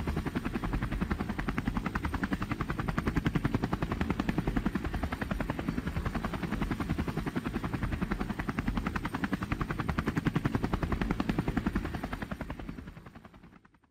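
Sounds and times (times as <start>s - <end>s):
helicopter rotor blades beating: 0.0s - 13.8s.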